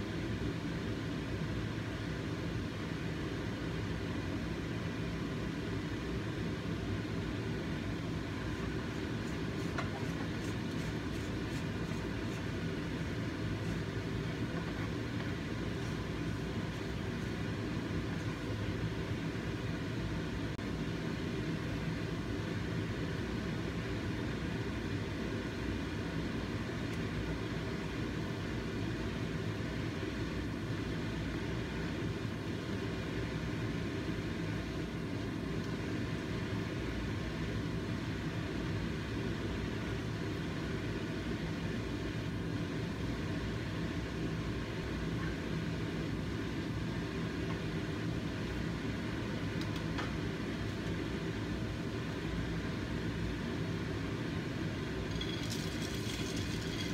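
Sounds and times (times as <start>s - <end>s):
low mechanical hum: 0.0s - 56.9s.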